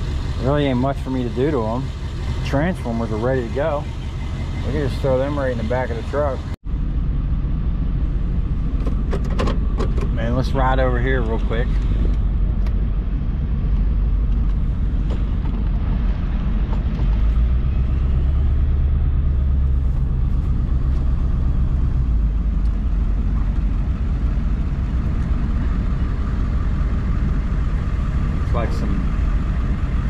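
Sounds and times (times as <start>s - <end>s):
truck engine and road rumble: 0.0s - 30.0s.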